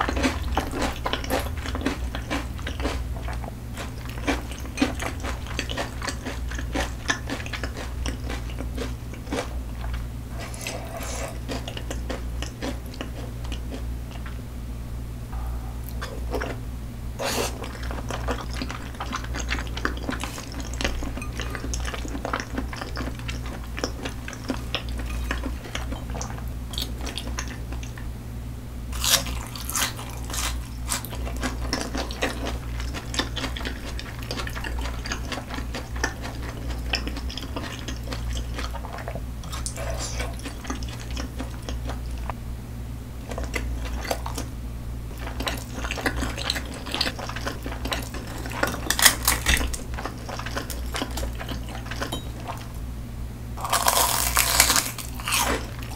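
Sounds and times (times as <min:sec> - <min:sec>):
chewing food: 0:00.0 - 0:14.4, 0:17.2 - 0:28.1, 0:29.0 - 0:42.4, 0:43.2 - 0:44.5, 0:45.1 - 0:52.8, 0:53.6 - 0:55.9
steady low hum: 0:00.0 - 0:55.9.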